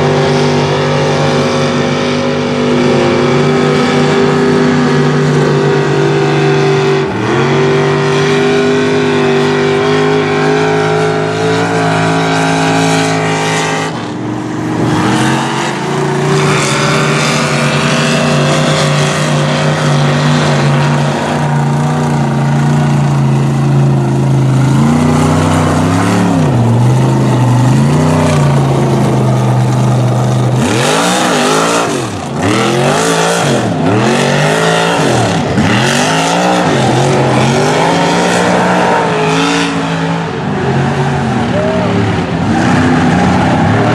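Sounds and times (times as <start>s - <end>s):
truck engine revving: 0.0s - 43.9s.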